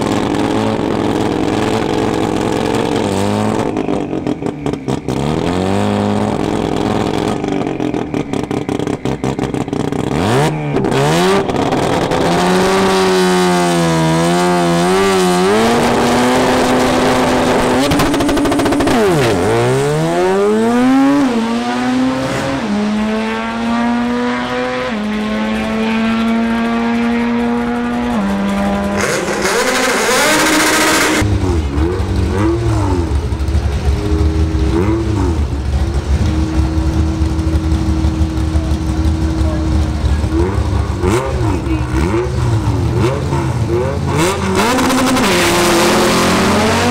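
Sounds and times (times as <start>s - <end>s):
deeper car engine: 0.0s - 46.9s
drag car engine revving: 0.0s - 46.9s.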